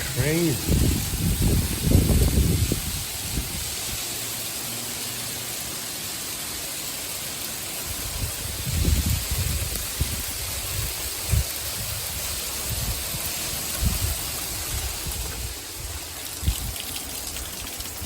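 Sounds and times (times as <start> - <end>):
hail hitting ground and plants: 0.0 - 18.0.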